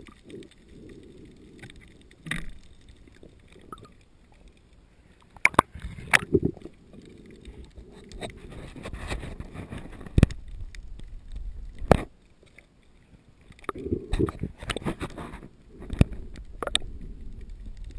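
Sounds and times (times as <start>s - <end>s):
water sloshing and rushing: 0.0s - 17.9s.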